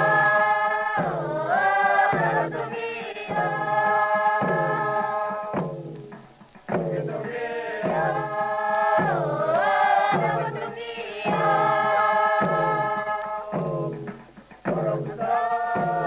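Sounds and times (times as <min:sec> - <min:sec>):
group singing a chant: 0:00.0 - 0:16.0.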